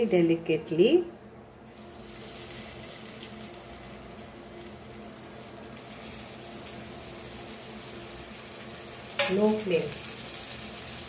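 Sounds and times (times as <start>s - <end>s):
fish roe sizzling in oil: 1.7s - 11.0s.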